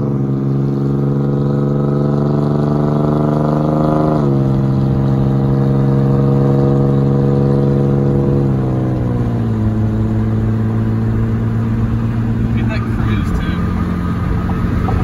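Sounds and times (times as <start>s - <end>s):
car exhaust droning: 0.0s - 15.0s.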